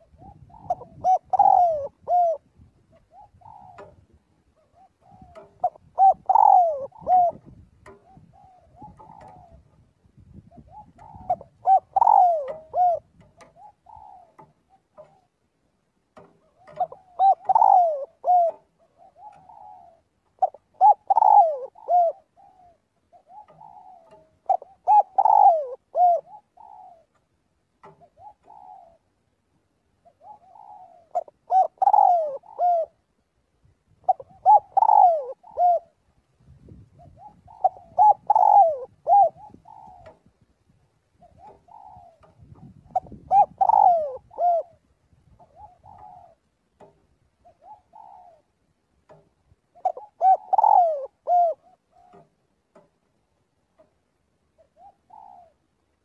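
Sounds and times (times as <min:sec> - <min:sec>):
dove cooing: 0:00.0 - 0:15.6, 0:16.2 - 0:33.3, 0:33.9 - 0:40.4, 0:41.1 - 0:55.9.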